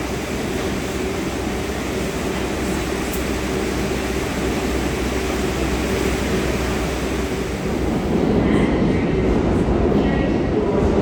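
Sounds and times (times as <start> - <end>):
subway train rumbling on rails: 0.0 - 11.0.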